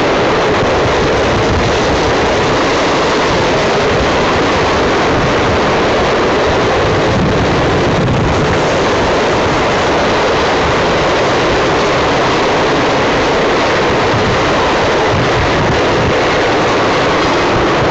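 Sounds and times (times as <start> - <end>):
freight train wheels rumbling: 0.0 - 17.9.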